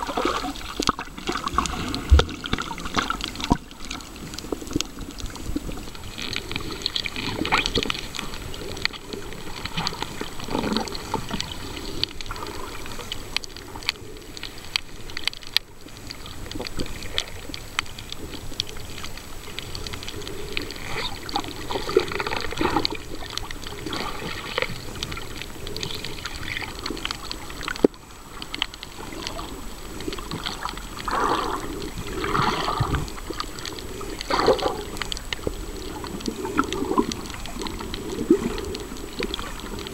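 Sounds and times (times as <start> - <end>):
underwater water sloshing: 0.0 - 39.9
underwater clicks: 0.1 - 39.9.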